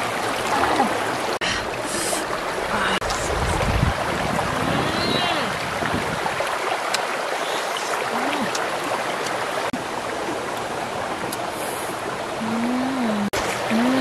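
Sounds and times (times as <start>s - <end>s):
stream rushing over stones: 0.0s - 14.0s.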